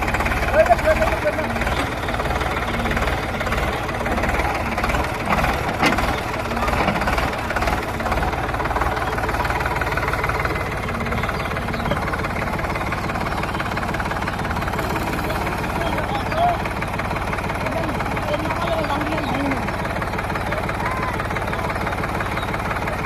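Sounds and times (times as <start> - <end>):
sharp engine knocks: 0.0 - 23.0
tractor diesel engine running: 0.0 - 23.0.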